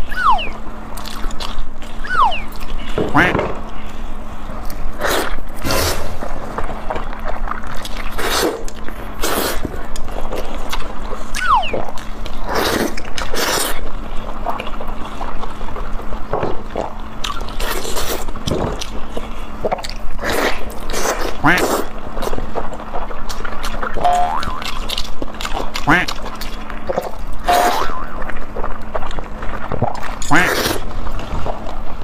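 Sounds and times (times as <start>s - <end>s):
chewing and lip smacks: 0.2s - 3.0s, 6.5s - 31.7s.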